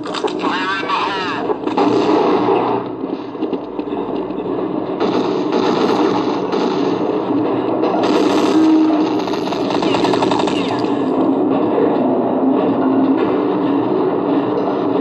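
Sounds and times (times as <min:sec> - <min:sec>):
dense rough video game noise: 0:00.0 - 0:15.0.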